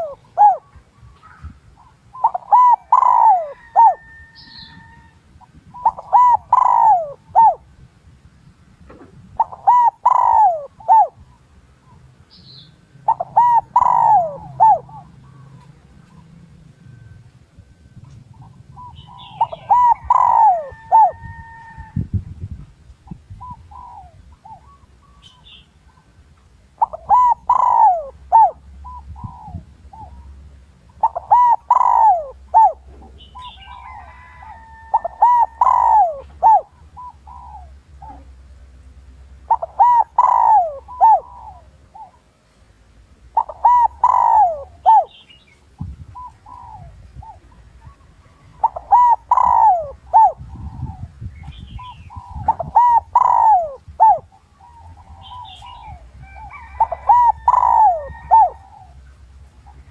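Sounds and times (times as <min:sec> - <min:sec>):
dove cooing: 0:00.0 - 0:07.7, 0:08.9 - 0:12.0, 0:13.0 - 0:17.1, 0:17.9 - 0:22.0, 0:23.3 - 0:26.1, 0:26.7 - 0:38.5, 0:39.3 - 0:42.4, 0:43.2 - 0:59.9.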